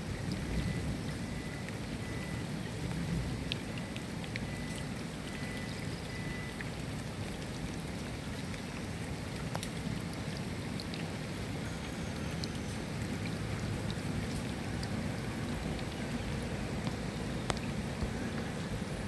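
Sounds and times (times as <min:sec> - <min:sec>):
water drips ticking: 0:00.0 - 0:19.0.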